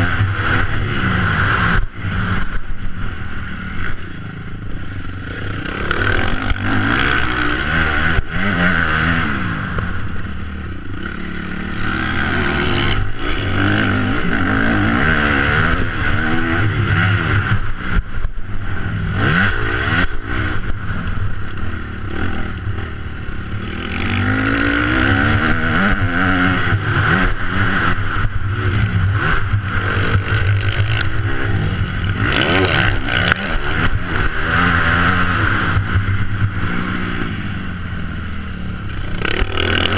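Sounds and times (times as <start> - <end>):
dirt noise: 0.0 - 18.2, 18.8 - 39.9
motocross bike engine revving: 0.0 - 39.9.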